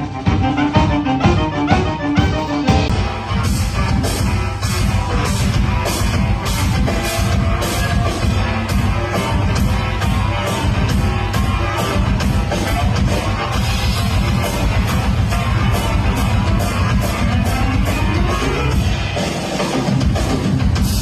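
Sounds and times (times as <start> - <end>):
bass clarinets holding low notes: 0.0 - 18.7.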